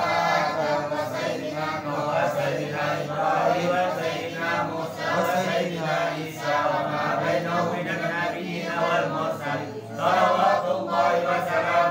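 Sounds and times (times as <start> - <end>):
men chanting together: 0.0 - 11.9.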